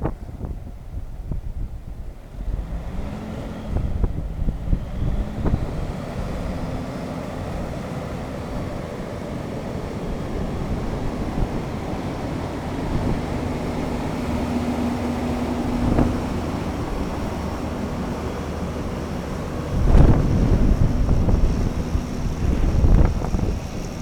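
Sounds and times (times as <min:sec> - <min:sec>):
wind noise on microphone: 0:00.0 - 0:24.0
truck diesel engine running: 0:02.2 - 0:24.0.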